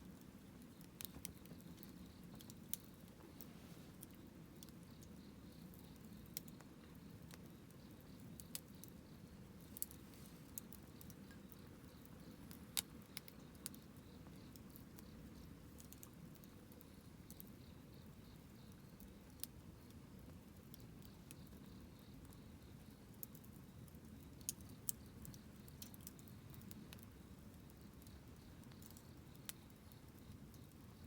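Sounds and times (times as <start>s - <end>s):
burning wood popping and crackling: 0.0s - 31.0s
low rumble of fire: 0.0s - 31.0s.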